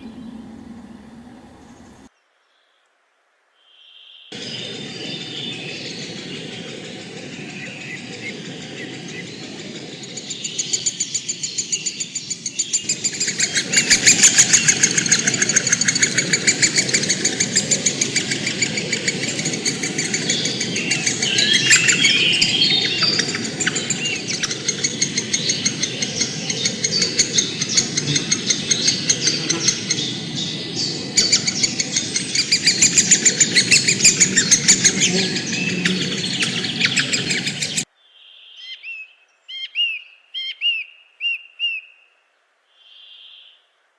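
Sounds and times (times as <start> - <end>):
low background rumble: 0.0 - 2.1, 4.4 - 37.8
whistled bird notes: 0.0 - 2.1, 3.8 - 42.1
birds chirping chorus: 0.0 - 2.7, 3.9 - 41.1.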